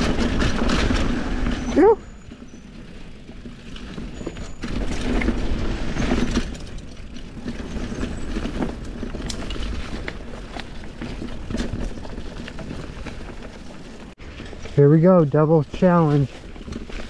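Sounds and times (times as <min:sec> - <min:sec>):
bike rattling and clicking: 0:00.0 - 0:17.0
bike tyres rolling on dirt: 0:00.0 - 0:17.0.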